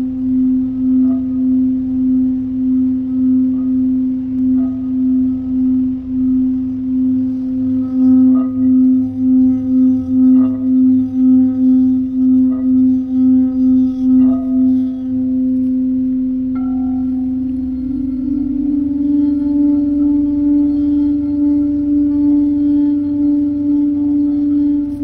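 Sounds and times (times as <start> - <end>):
higher-pitched bowl ringing: 0.0 - 25.0
singing bowl deep steady tone: 0.0 - 25.0
singing bowl soft strikes: 0.0 - 25.0.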